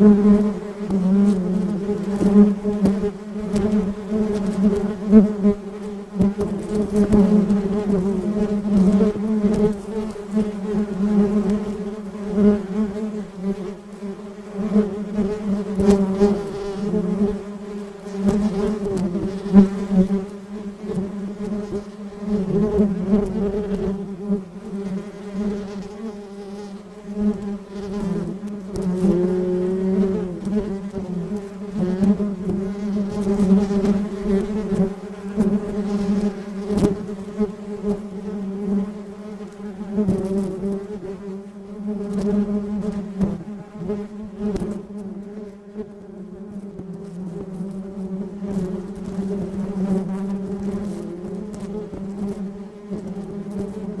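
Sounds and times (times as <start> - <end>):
bee buzzing: 0.0 - 54.0.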